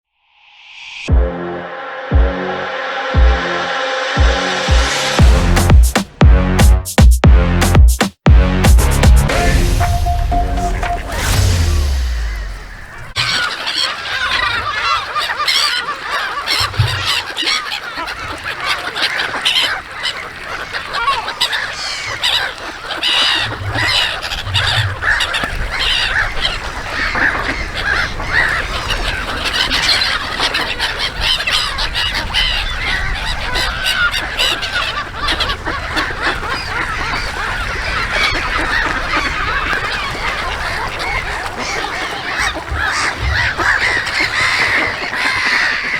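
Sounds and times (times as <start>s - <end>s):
geese honking: 7.6s - 45.9s.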